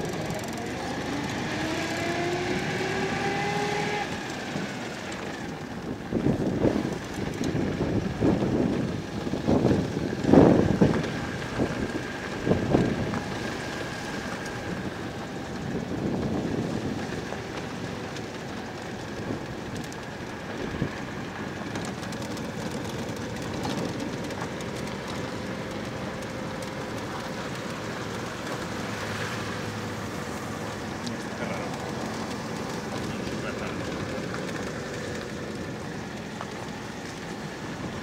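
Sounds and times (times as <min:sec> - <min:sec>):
car engine and road noise: 0:00.0 - 0:38.0
light rattles and clicks: 0:04.1 - 0:14.9, 0:15.5 - 0:38.0.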